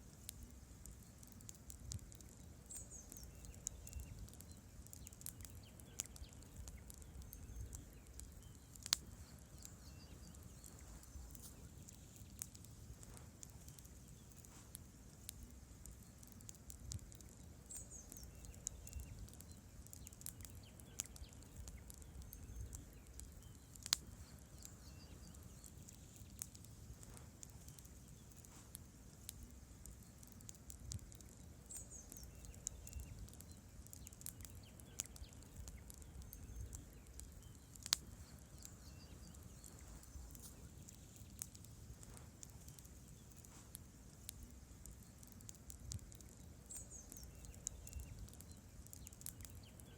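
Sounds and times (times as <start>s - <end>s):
campfire crackles and pops: 0.0s - 49.9s
low rumble of flames: 0.0s - 49.9s.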